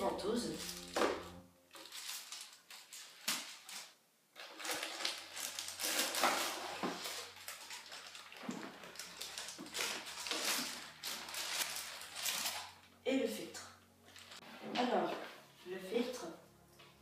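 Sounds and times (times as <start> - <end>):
plastic and cardboard rustling: 0.0 - 12.9, 14.0 - 16.2.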